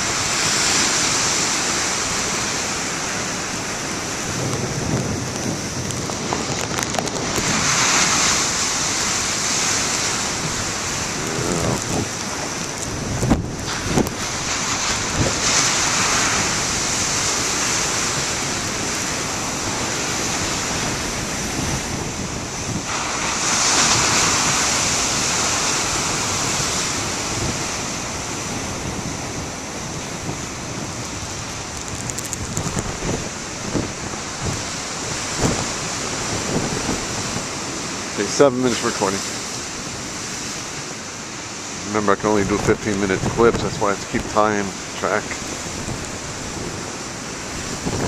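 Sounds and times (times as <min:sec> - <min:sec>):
ocean waves crashing on rocks: 0:00.0 - 0:48.0.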